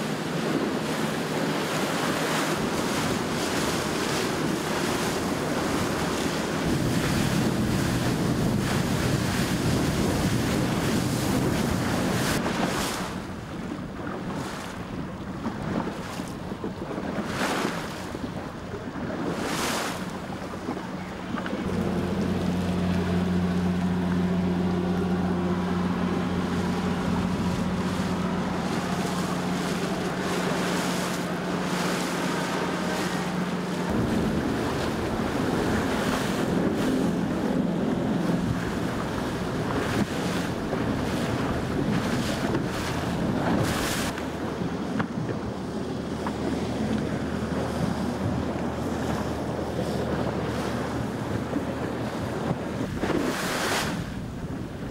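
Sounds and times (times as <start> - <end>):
low engine hum: 0.0 - 54.9
sea: 0.0 - 54.9
wind buffeting microphone: 0.0 - 54.9.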